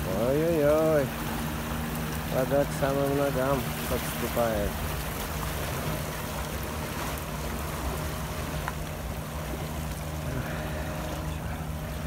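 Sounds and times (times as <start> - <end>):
steady low hum: 0.0 - 12.0
water lapping at pavement edge: 0.0 - 12.0.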